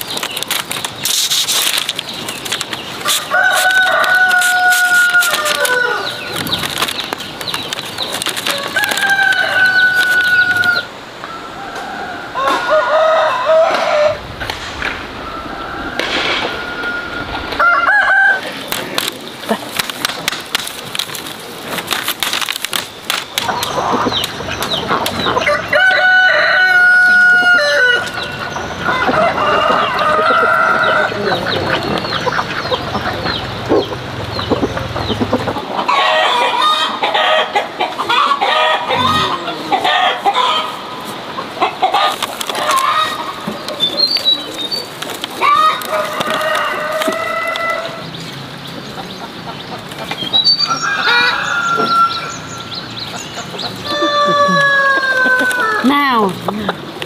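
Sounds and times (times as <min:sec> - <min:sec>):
hens clucking: 0:00.0 - 0:57.0
roosters crowing: 0:02.8 - 0:19.8, 0:23.4 - 0:57.0.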